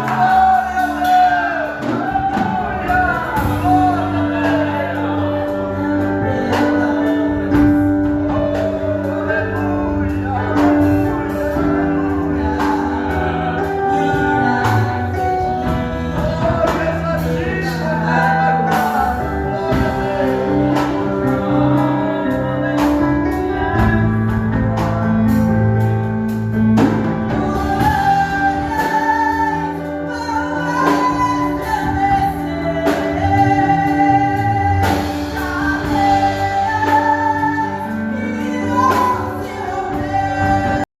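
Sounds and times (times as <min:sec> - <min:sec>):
instrumental backing with beat: 0:00.0 - 0:40.9
voices singing worship song: 0:00.0 - 0:40.9.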